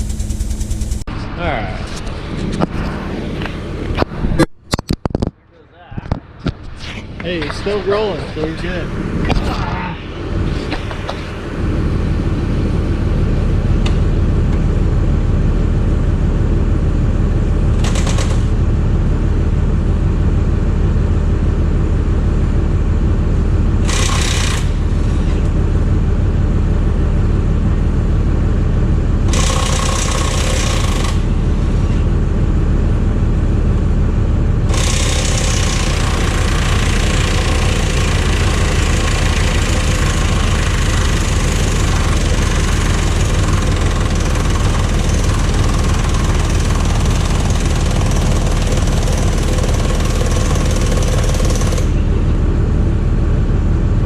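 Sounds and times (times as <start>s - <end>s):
heavy diesel engine running: 6.9s - 54.0s.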